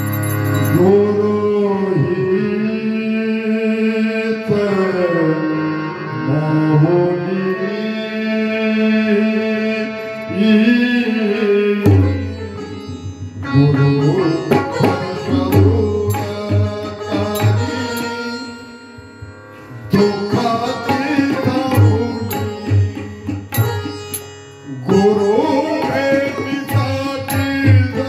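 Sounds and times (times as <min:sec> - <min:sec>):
man singing devotional song: 0:00.0 - 0:19.2, 0:19.8 - 0:28.0.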